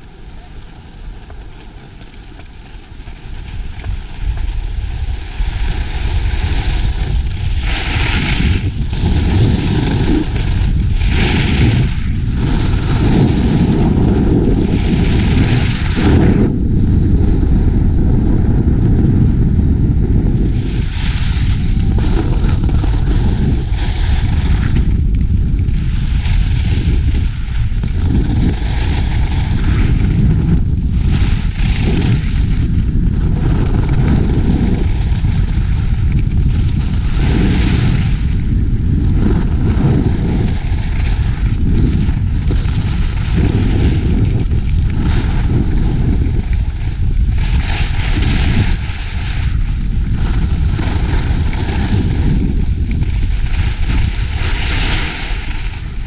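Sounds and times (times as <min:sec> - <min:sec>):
skis scraping on snow: 0:00.0 - 0:56.0
wind buffeting microphone: 0:00.0 - 0:56.0.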